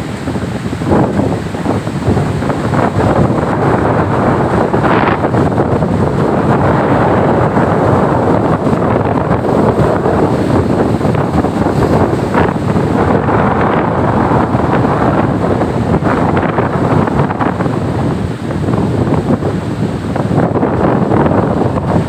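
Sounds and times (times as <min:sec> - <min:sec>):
breaking surf: 0:00.0 - 0:22.0
wind buffeting microphone: 0:00.0 - 0:22.0.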